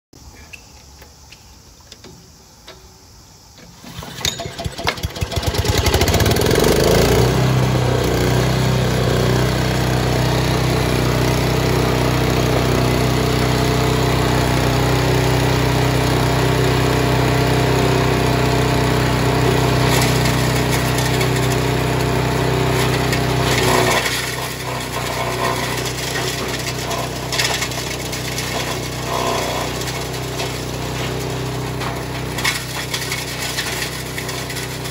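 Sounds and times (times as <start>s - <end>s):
engine starting and running: 3.6s - 34.9s.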